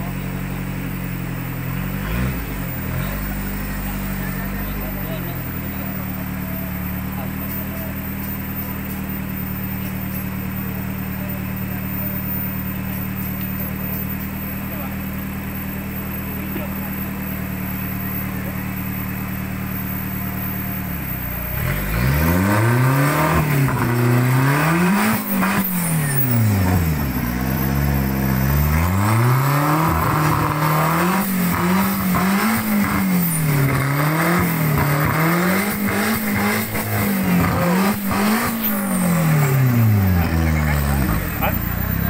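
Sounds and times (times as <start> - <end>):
truck engine revving: 0.0 - 42.0.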